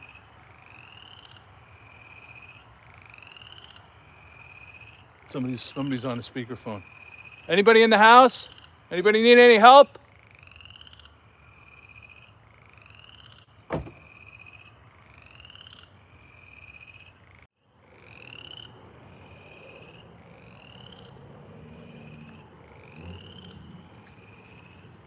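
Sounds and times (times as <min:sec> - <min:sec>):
frogs calling: 0:00.0 - 0:25.0.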